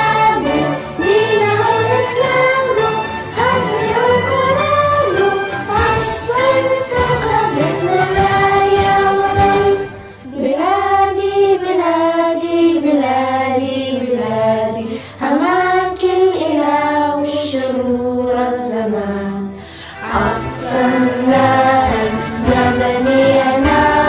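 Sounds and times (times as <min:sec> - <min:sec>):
low instrumental backing: 0:00.0 - 0:11.6, 0:13.6 - 0:24.0
children singing: 0:00.0 - 0:24.0.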